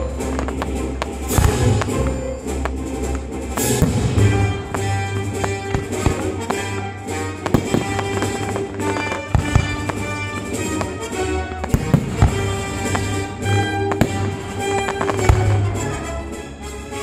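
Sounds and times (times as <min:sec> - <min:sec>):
fireworks bangs and crackles: 0:00.0 - 0:17.0
music soundtrack: 0:00.0 - 0:17.0.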